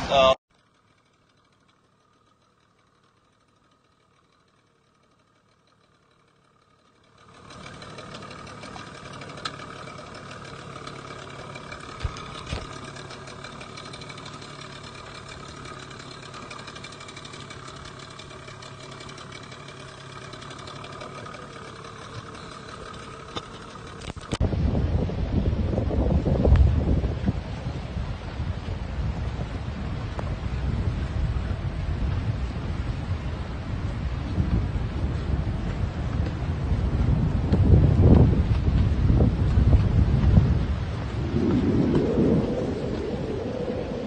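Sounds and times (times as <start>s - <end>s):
small boat engine running: 0.0s - 44.0s.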